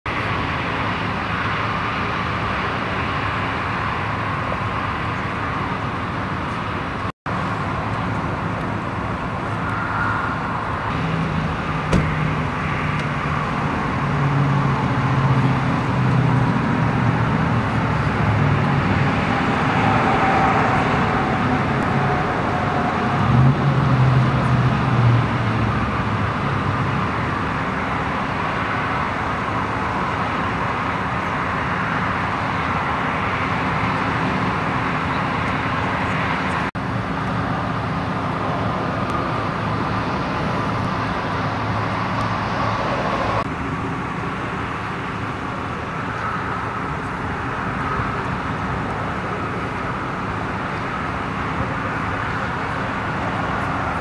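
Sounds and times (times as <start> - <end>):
low engine hum: 0.1 - 54.0
road traffic passing: 0.1 - 54.0.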